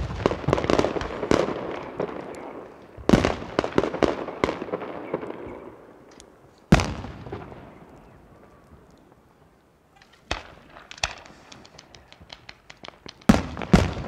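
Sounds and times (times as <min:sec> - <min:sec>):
crackling firework pops: 0:00.0 - 0:09.2, 0:10.0 - 0:14.0.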